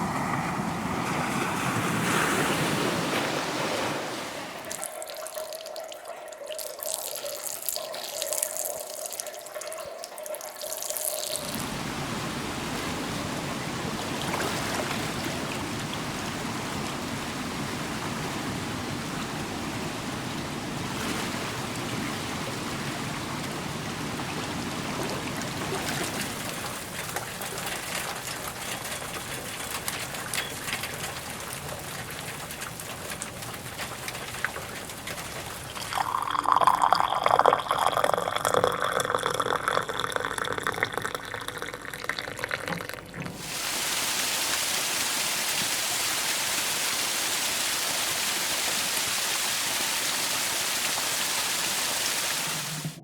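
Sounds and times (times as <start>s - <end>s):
water rushing: 0.0s - 53.0s
water splashing: 0.0s - 53.0s.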